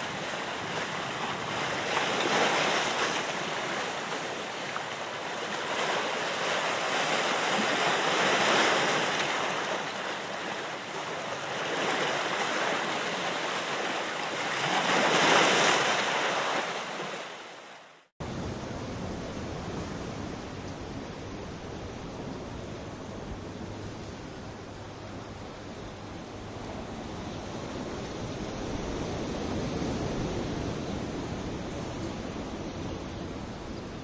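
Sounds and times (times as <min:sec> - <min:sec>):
ocean waves rushing and washing back: 0:00.0 - 0:34.0.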